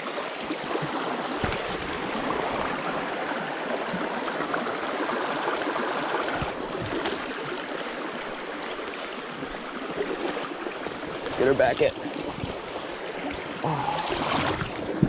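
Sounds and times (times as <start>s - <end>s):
creek water gurgling over rocks: 0.0s - 15.0s.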